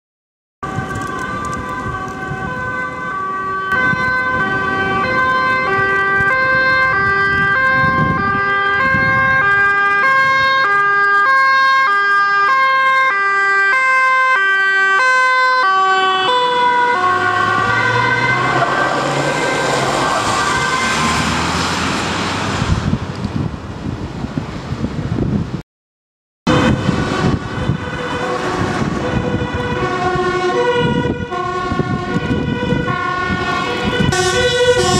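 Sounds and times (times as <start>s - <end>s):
vehicle engine: 0.6s - 11.7s, 16.0s - 25.0s, 26.5s - 34.9s
two-tone police sirens: 0.6s - 23.0s, 26.5s - 34.9s.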